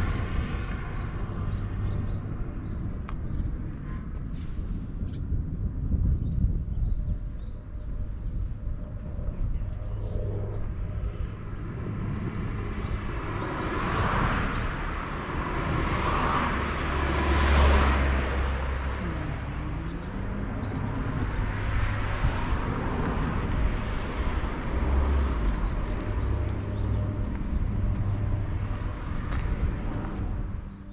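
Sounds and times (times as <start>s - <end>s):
low traffic rumble: 0.0s - 30.9s
vehicles passing: 0.0s - 30.9s.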